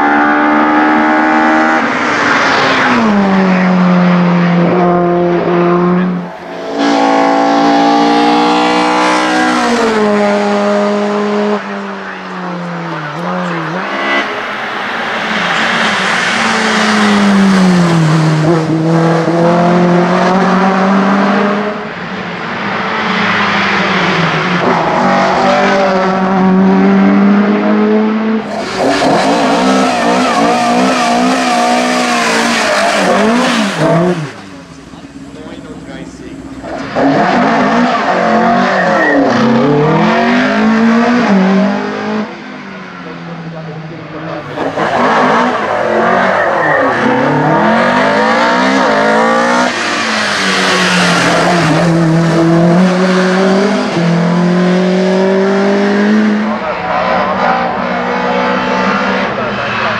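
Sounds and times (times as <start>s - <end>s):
race car engine revving past: 0.0s - 21.9s, 22.6s - 59.9s
race car revving at start line: 0.0s - 59.9s.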